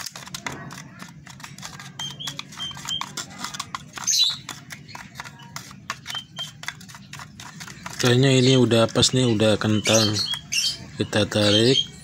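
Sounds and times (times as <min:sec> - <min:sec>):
syringe tapping plastic cup: 0:00.0 - 0:10.6
chicks chirping: 0:01.7 - 0:12.0.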